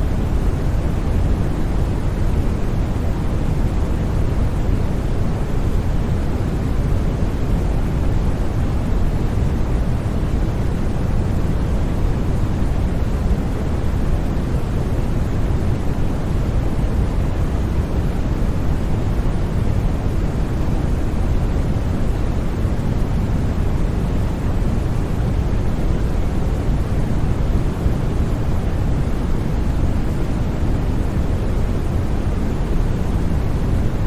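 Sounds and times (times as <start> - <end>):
steady white noise hiss: 0.0 - 34.0.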